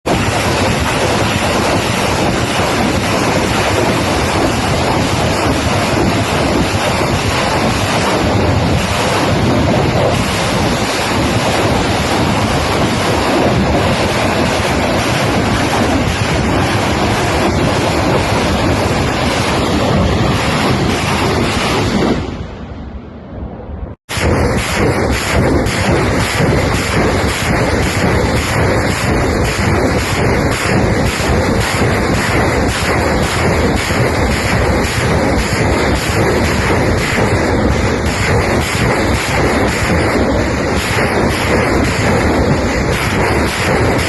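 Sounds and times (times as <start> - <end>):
rocket launch rushing: 0.0 - 44.0.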